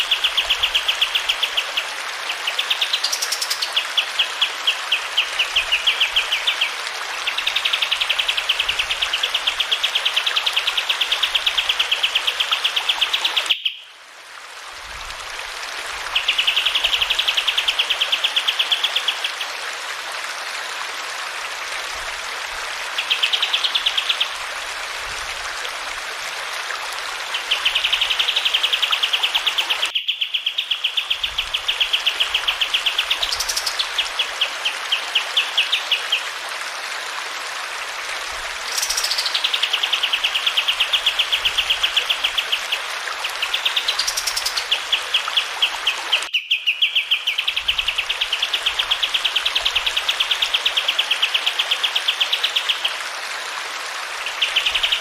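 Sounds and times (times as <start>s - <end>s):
flowing water rushing: 0.0s - 29.9s, 30.6s - 55.0s.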